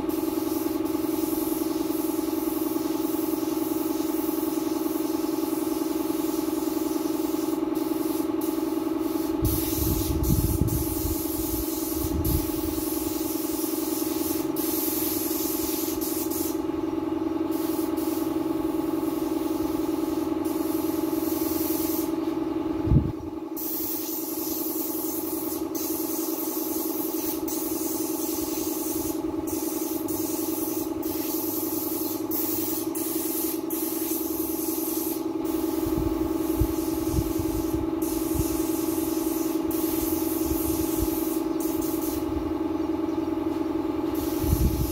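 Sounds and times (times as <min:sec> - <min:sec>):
paint spray gun hissing: 0:00.0 - 0:16.8, 0:17.4 - 0:22.4, 0:23.5 - 0:42.4, 0:43.6 - 0:44.9
steady hum: 0:06.1 - 0:42.8.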